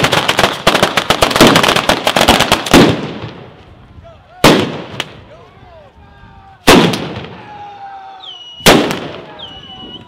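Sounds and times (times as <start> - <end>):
firework blasts: 0.0 - 5.4, 6.5 - 10.0.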